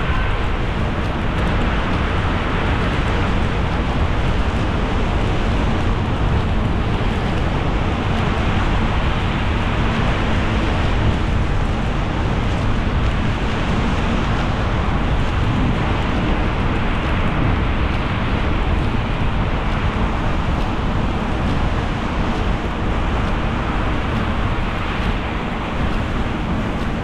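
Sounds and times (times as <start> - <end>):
low road rumble: 0.0 - 27.0.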